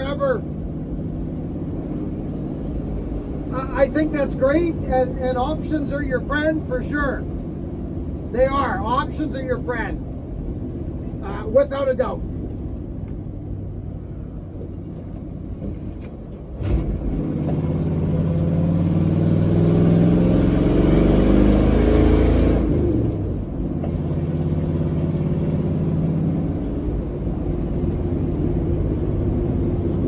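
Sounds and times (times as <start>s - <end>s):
pickup truck engine accelerating: 0.0s - 30.0s.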